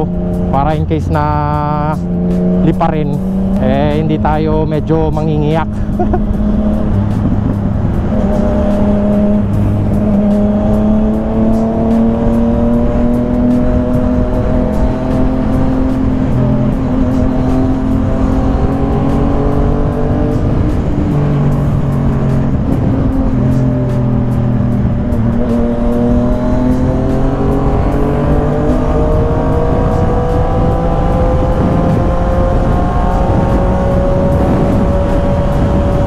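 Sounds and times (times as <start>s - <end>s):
motorcycle engine running: 0.0s - 36.0s
wind noise: 2.7s - 36.0s.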